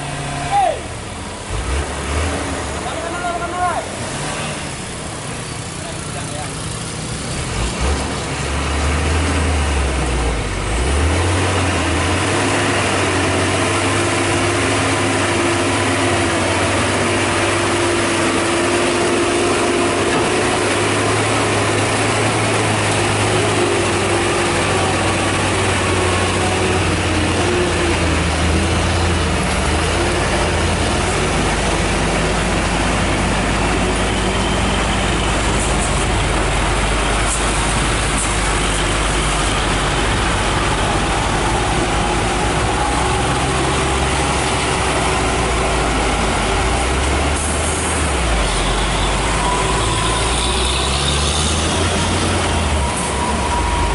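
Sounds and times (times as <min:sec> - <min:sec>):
diesel truck engine droning: 0:00.0 - 0:53.9.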